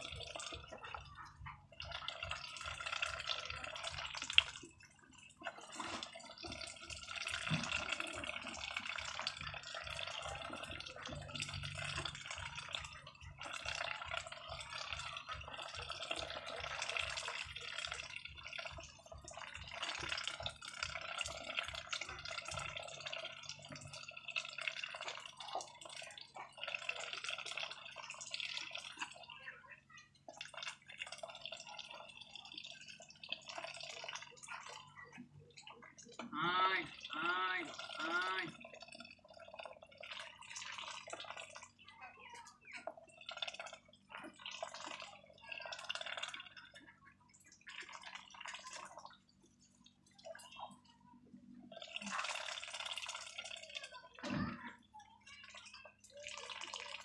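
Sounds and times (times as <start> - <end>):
ducks slurping and splashing: 0.0 - 57.0.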